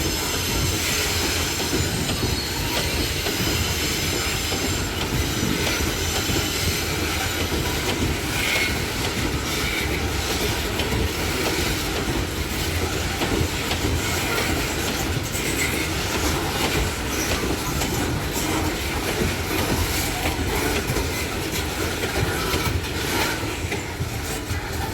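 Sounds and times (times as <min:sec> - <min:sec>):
freight train wheels rumbling: 0:00.0 - 0:24.9
wheels clacking over rail joints: 0:00.0 - 0:24.9.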